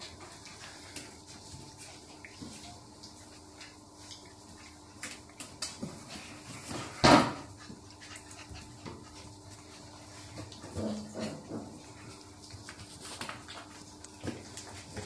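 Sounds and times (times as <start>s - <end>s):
puppies scuffling on tiled floor: 0.0s - 15.0s.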